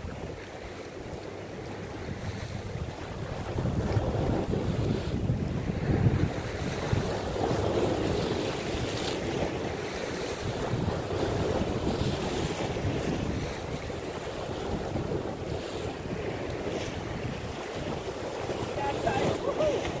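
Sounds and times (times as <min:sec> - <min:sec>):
waves breaking on rocks: 0:00.0 - 0:20.0
wind buffeting microphone: 0:00.0 - 0:20.0.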